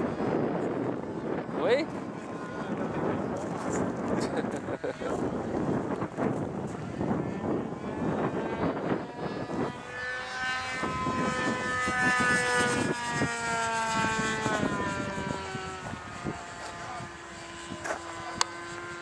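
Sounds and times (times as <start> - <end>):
model airplane engine buzzing: 0.0 - 19.0
wind rumbling on microphone: 0.0 - 19.0.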